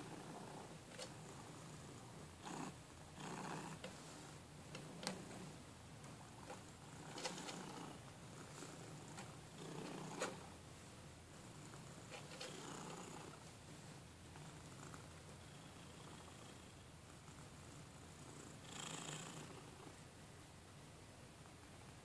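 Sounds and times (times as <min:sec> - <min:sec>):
cat purring: 0:00.0 - 0:10.6, 0:11.3 - 0:20.0.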